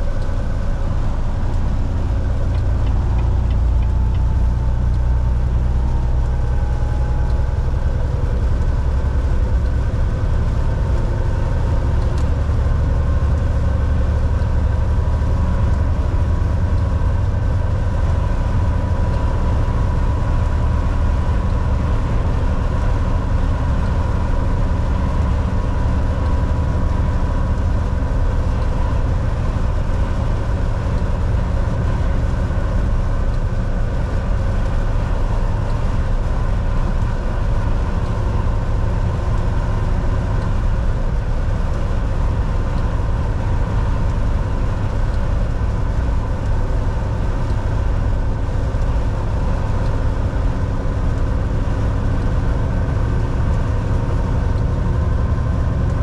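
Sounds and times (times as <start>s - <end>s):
diesel engine drone: 0.0s - 56.0s
road noise: 0.0s - 56.0s.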